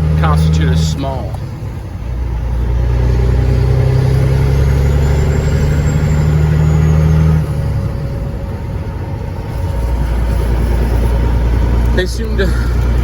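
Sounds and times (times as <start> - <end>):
truck diesel engine pulling: 0.0 - 13.0.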